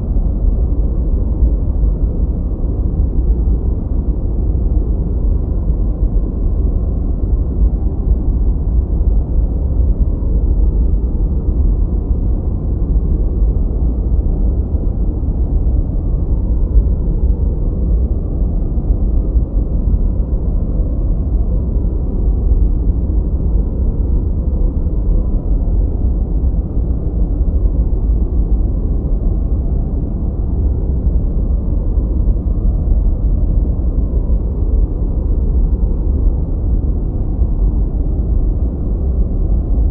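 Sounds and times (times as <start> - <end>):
deep synthetic noise rumble: 0.0 - 39.9.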